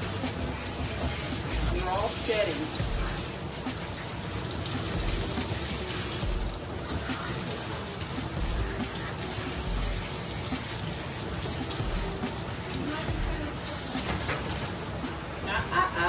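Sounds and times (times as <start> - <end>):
water splashing into metal tub: 0.0 - 16.0
water sprayer hissing: 0.0 - 16.0.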